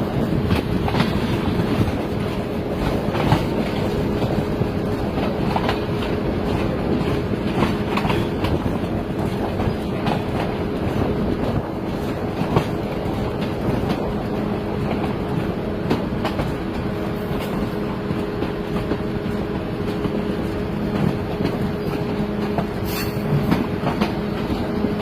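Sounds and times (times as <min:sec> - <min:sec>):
train rumbling on rails: 0:00.0 - 0:25.0
wheels clacking over rail joints: 0:00.0 - 0:25.0.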